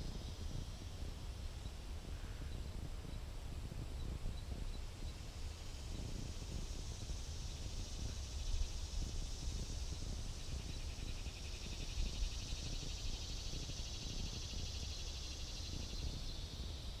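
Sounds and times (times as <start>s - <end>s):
insect trill: 0.0s - 17.0s
wind buffeting microphone: 0.0s - 17.0s.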